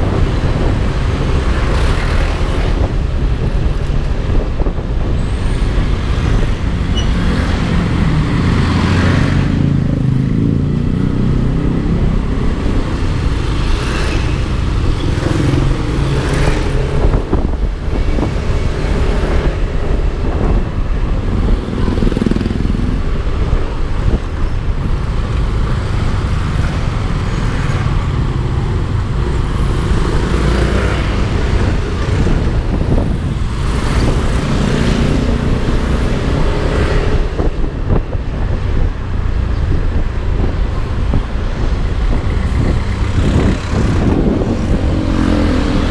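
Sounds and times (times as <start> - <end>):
road and traffic noise: 0.0 - 45.9.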